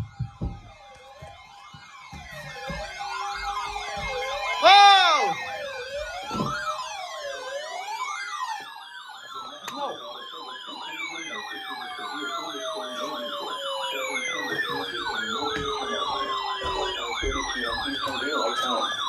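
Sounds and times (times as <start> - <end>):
fast siren warble: 0.0 - 19.0
long gliding siren tones: 0.0 - 19.0
sirens wailing and yelping: 0.0 - 19.0.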